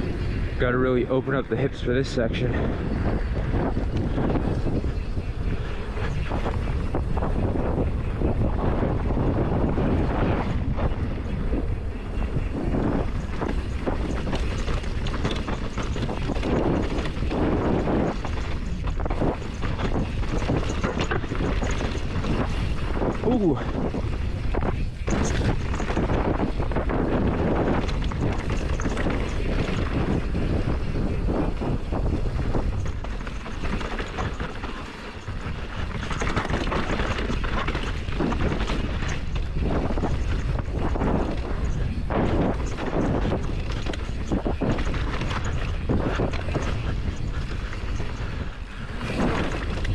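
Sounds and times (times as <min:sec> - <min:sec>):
bike clicking and rattling: 0:00.0 - 0:49.9
wind on camera microphone: 0:00.0 - 0:49.9
tyres crunching on dirt: 0:08.3 - 0:49.9.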